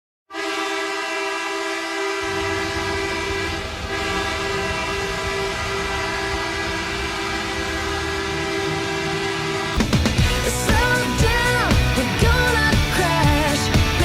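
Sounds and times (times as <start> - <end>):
goal horn blast: 0.3 - 11.8
low pulsing music: 2.1 - 14.0.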